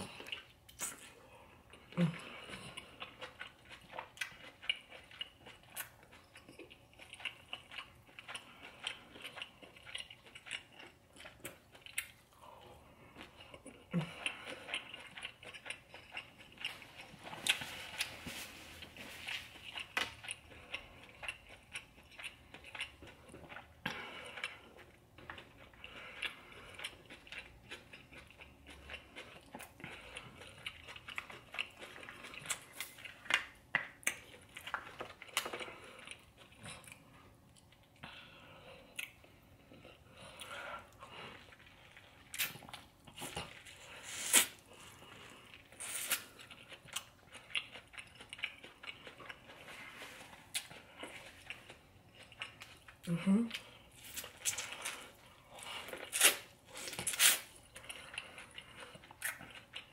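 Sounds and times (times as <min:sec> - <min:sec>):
chewing and mouth smacking: 0:00.0 - 0:59.9.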